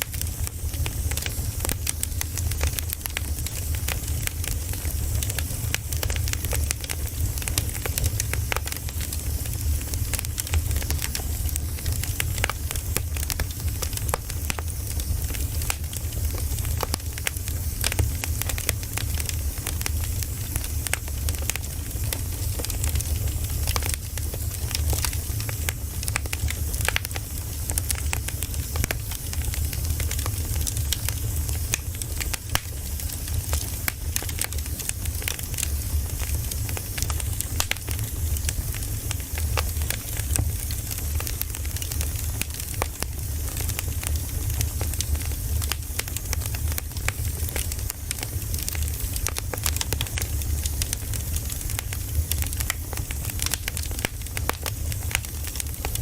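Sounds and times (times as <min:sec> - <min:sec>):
burning wood crackling: 0:00.0 - 0:56.0
campfire flames rumbling: 0:00.0 - 0:56.0.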